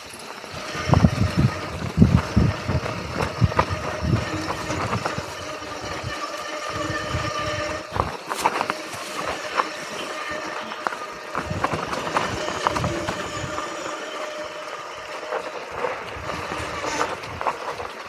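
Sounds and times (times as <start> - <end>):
bike rattling over bumps: 0.0 - 18.0
tyres rolling over dirt: 0.0 - 18.0
whirring motor hum: 0.0 - 18.0.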